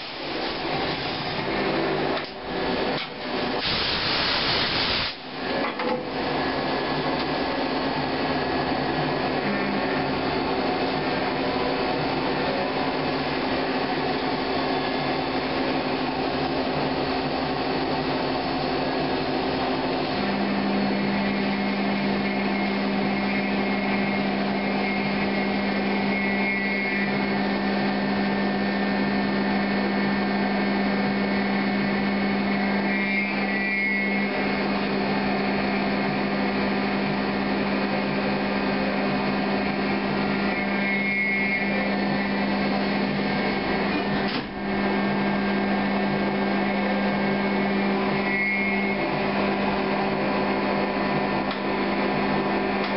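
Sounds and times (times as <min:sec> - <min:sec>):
lathe machine hum: 0:00.0 - 0:52.9
low machine tone: 0:05.4 - 0:52.9.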